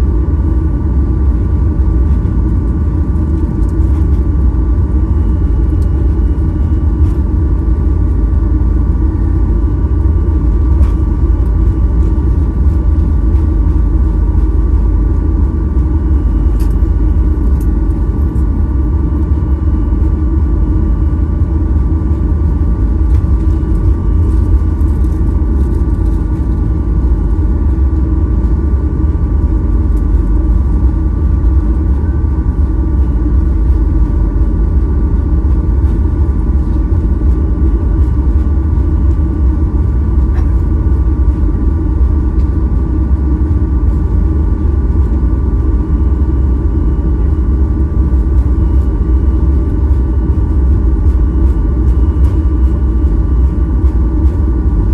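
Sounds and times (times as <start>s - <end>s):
aircraft cabin rumble and hum: 0.0s - 54.9s.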